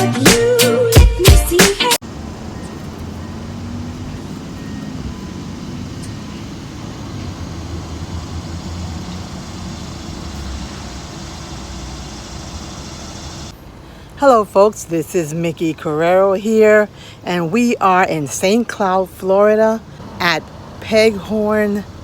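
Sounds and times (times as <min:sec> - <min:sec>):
vehicle engine hum: 0:02.0 - 0:17.5, 0:19.8 - 0:22.0
distant road traffic rumble: 0:02.0 - 0:22.0.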